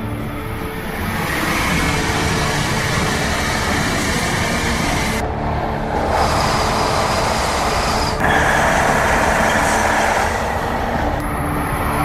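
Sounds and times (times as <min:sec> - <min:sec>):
high-speed train rushing past: 0:00.0 - 0:12.0.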